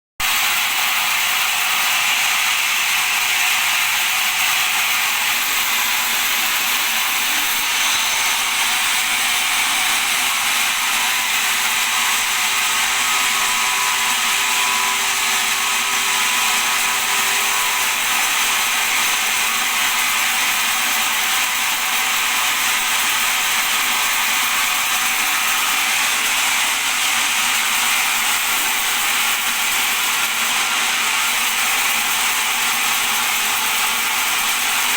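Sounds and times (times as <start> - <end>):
bandsaw running: 0.2 - 34.9.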